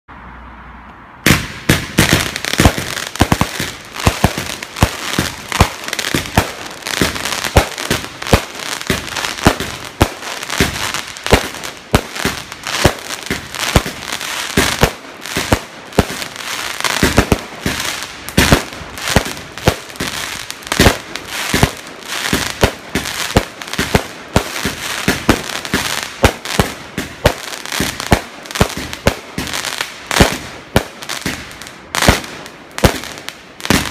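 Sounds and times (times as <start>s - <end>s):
firework aerial bursts: 1.2s - 33.9s.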